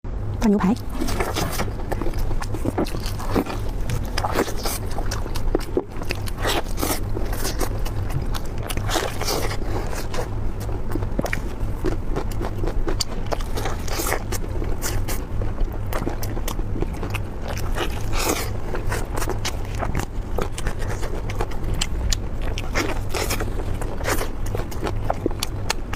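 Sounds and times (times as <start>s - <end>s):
steady low hum: 0.1s - 25.9s
person chewing food: 0.8s - 25.9s.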